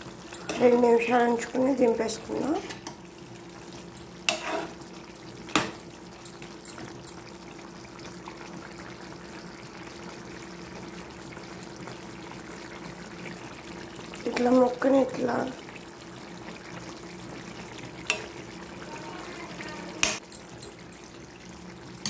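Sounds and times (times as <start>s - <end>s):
curry simmering with faint hiss: 0.0s - 22.0s.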